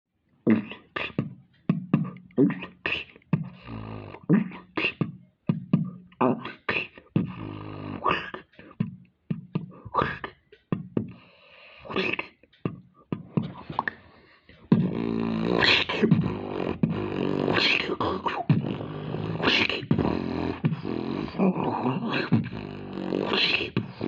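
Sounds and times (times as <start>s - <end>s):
beatboxing percussive hits: 0.5s - 24.0s.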